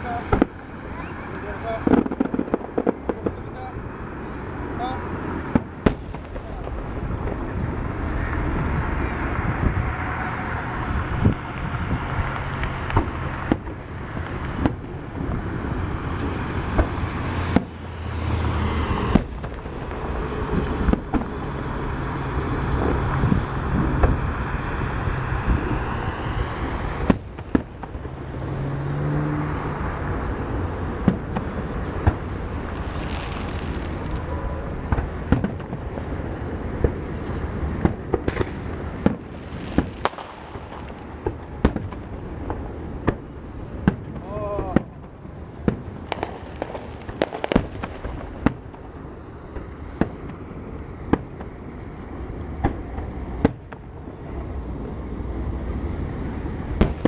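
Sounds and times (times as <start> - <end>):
fireworks rumbling and crackling: 0.0 - 57.0
sharp fireworks bangs: 0.0 - 57.0.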